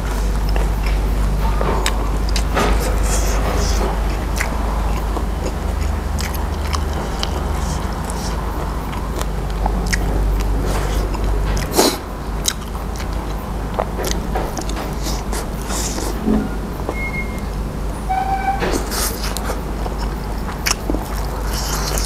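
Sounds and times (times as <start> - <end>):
man chewing crunchy food: 0.0 - 17.8, 18.8 - 22.0
steady low hum: 0.0 - 22.0.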